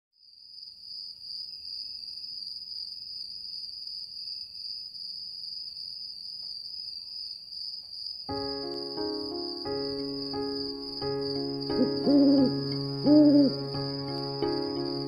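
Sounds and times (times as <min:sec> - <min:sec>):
crickets chirring: 0:00.2 - 0:15.0.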